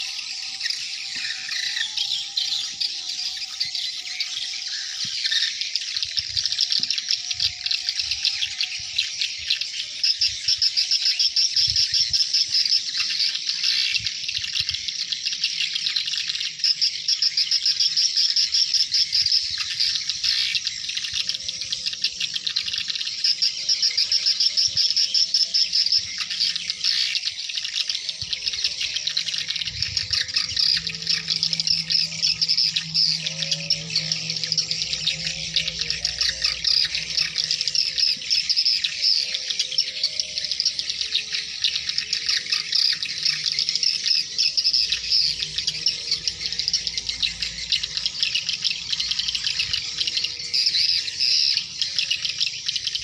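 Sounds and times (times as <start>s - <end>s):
flock of birds twittering: 0.0s - 53.0s.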